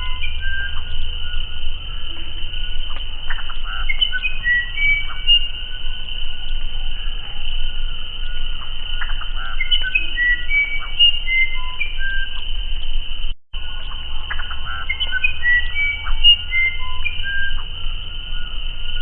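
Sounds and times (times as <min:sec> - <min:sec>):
bird whistled song: 0:00.0 - 0:19.0
high insect drone: 0:00.0 - 0:19.0.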